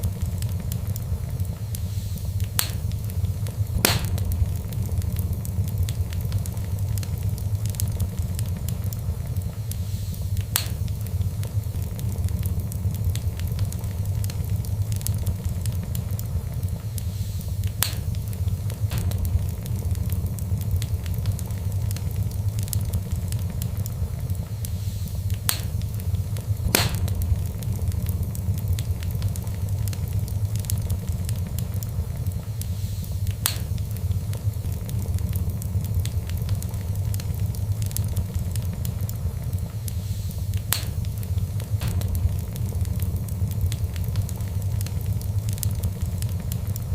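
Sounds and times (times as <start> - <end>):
fire crackles and pops: 0.0 - 46.9
wood fire rumbling: 0.0 - 46.9.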